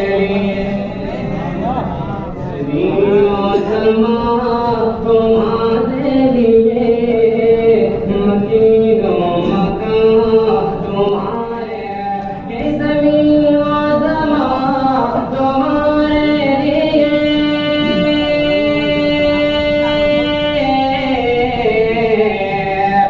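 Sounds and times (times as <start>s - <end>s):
man singing through loudspeaker: 0.0s - 23.0s.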